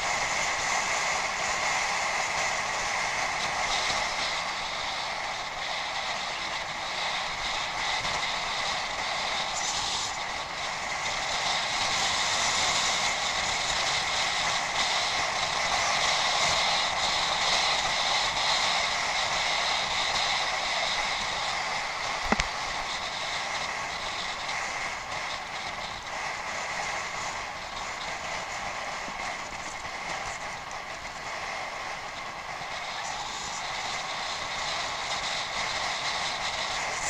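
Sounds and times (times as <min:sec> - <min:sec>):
bicycle rolling off-road: 0:00.0 - 0:37.0.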